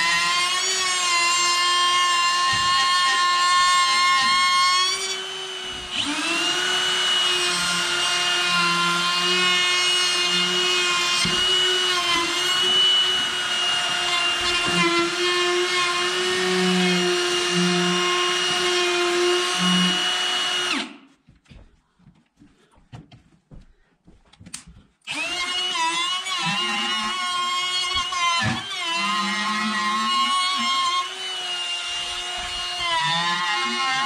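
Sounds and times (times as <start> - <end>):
router whining cutting wood: 0.0 - 21.0, 25.0 - 34.0.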